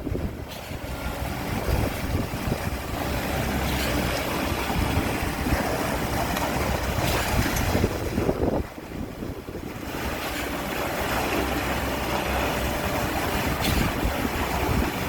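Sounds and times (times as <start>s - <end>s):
heavy truck engine running: 0.0s - 15.0s
wind noise on microphone: 0.0s - 15.0s.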